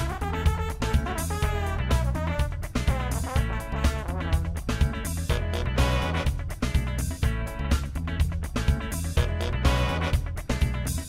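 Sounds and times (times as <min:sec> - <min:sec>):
band with guitar bass and drums: 0:00.0 - 0:11.0.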